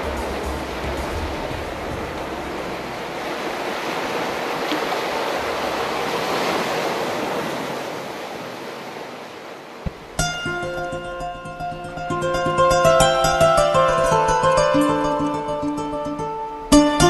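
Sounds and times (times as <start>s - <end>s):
ocean waves rushing: 0.0s - 17.0s.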